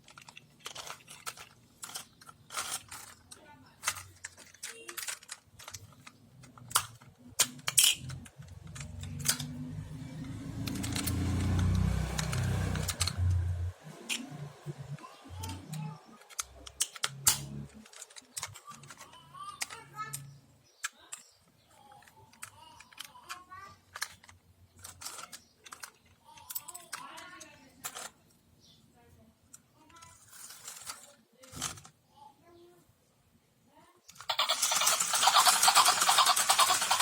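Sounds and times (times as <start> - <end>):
plastic toys clicking and clattering: 0.0 - 28.4, 29.4 - 32.0, 34.0 - 37.0.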